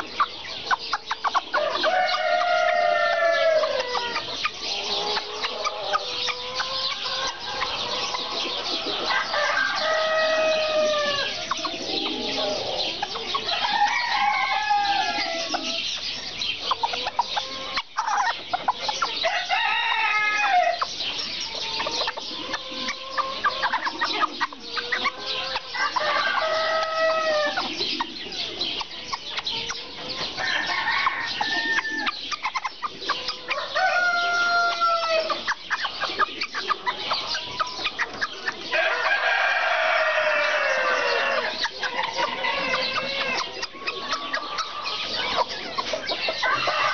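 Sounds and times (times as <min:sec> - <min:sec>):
chickens clucking and chirping: 0:00.0 - 0:46.9
roosters crowing: 0:01.1 - 0:16.1, 0:16.7 - 0:28.6, 0:29.6 - 0:46.9.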